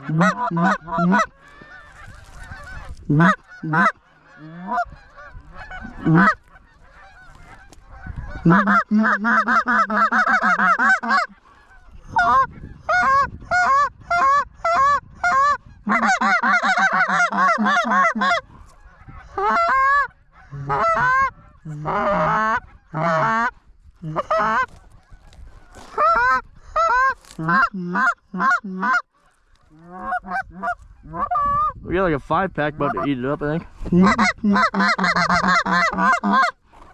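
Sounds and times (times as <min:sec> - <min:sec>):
geese honking and clucking: 0:00.0 - 0:36.9.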